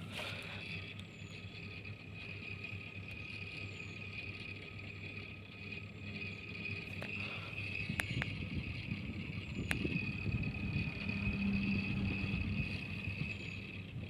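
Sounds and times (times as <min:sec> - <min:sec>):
ceiling fan running: 0:00.0 - 0:14.0.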